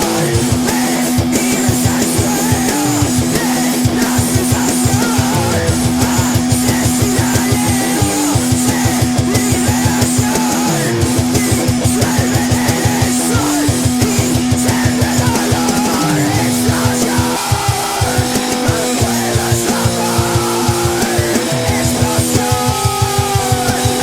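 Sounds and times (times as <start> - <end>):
fast low drumming: 0.0 - 24.0
heavy rock guitars: 0.0 - 24.0.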